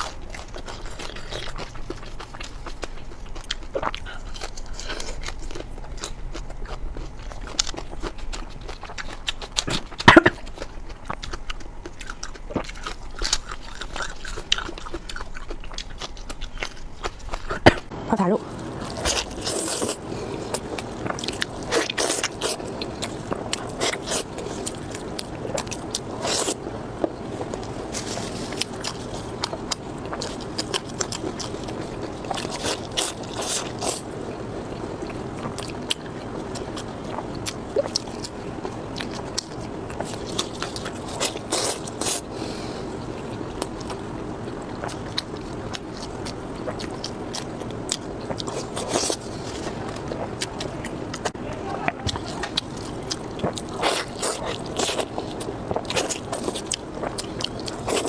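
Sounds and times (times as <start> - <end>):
person chewing: 0.0 - 58.0.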